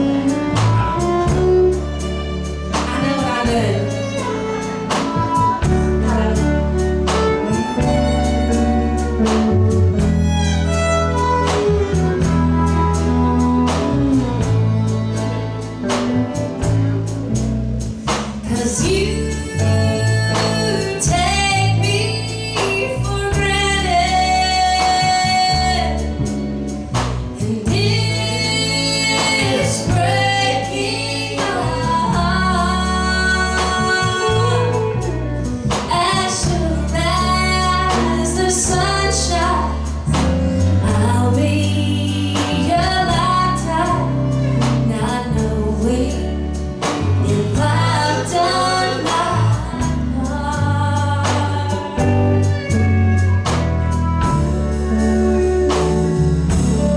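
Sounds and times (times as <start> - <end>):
bass and drums: 0.0 - 56.9
woman singing: 2.7 - 10.1, 18.4 - 56.9.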